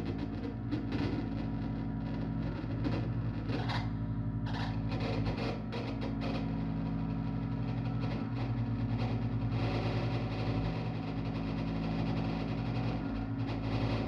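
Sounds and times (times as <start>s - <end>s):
pulsing low drone: 0.0s - 14.0s.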